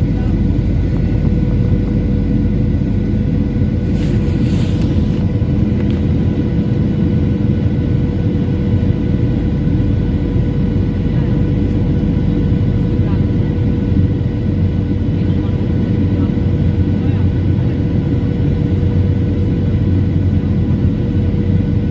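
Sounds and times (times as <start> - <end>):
airliner cabin engine rumble: 0.0 - 21.9
steady hum: 0.0 - 21.9.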